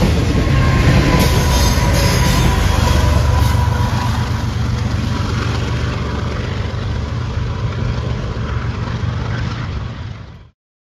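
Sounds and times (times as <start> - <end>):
diesel locomotive engine drone: 0.0 - 10.6
train wheel and rail noise: 0.0 - 10.6.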